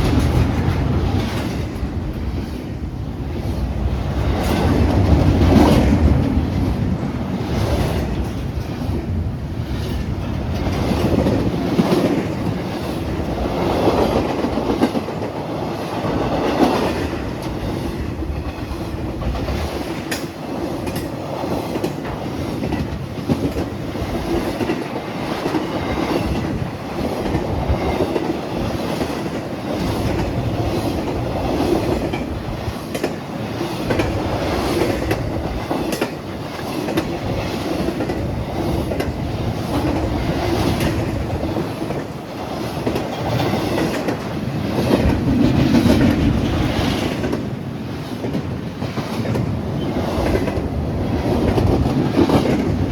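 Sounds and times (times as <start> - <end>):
train rumbling past: 0.0 - 52.9
train wheels clicking over rail joints: 0.0 - 52.9.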